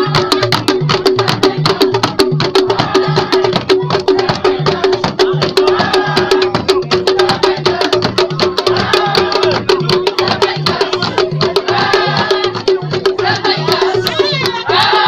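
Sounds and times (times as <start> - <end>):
traditional drumming: 0.0 - 15.0
voices singing: 0.0 - 15.0.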